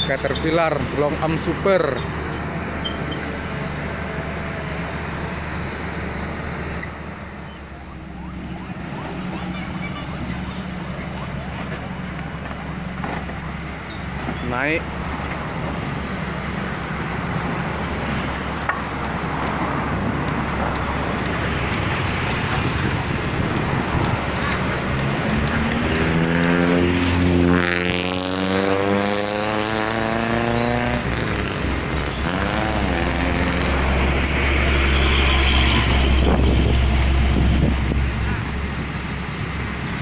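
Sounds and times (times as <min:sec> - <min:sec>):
heavy diesel engine running: 0:00.0 - 0:28.4, 0:31.0 - 0:40.0.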